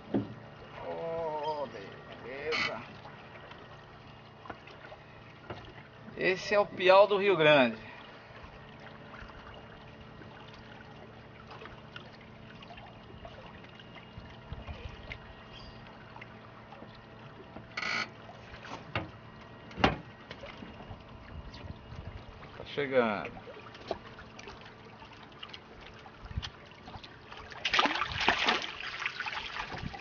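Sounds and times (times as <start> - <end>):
quiet river ambience: 0.0 - 29.8.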